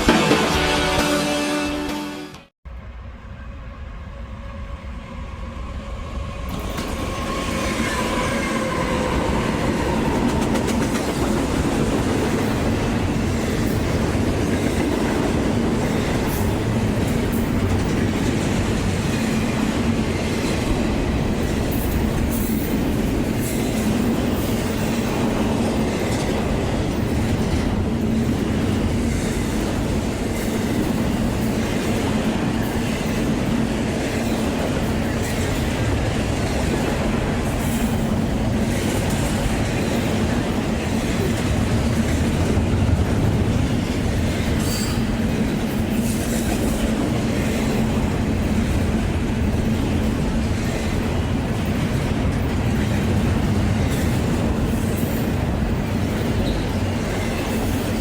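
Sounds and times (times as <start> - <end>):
train rumbling past: 0.0 - 58.0.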